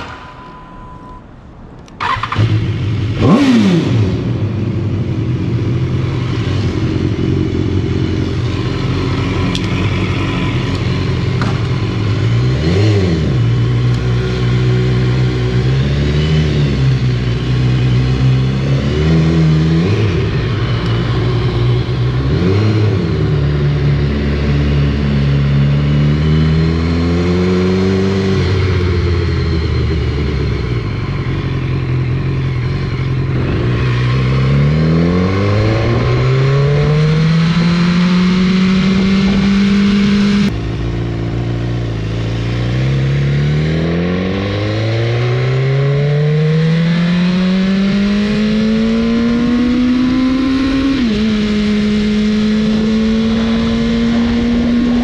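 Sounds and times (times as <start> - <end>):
motorcycle engine revving: 2.0 - 55.0.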